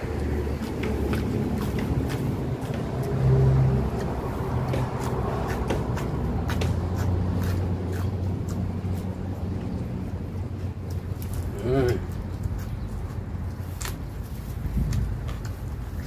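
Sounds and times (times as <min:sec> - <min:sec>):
crunching and smacking chewing: 0:00.0 - 0:16.0
road traffic rumble: 0:00.0 - 0:16.0.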